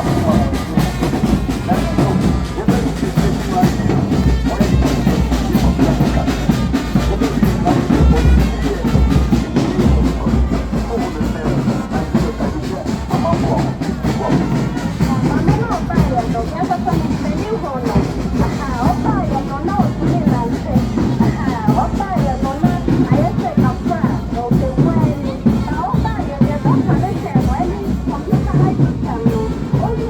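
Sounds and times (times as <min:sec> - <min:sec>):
drum-heavy band music with brass: 0:00.0 - 0:30.0
drums beating: 0:00.0 - 0:30.0.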